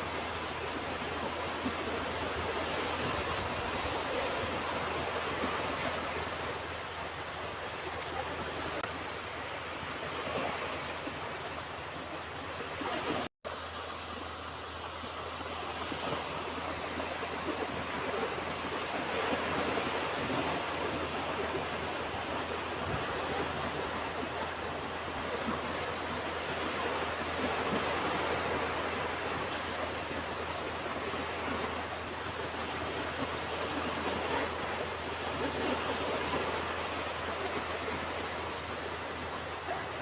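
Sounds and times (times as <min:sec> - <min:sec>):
waves breaking on beach: 0:00.0 - 0:40.0.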